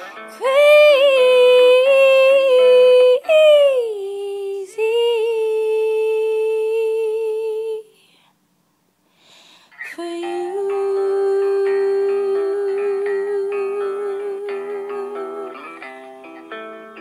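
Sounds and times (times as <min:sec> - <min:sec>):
woman singing a slow ballad: 0:00.3 - 0:08.2, 0:09.8 - 0:16.6.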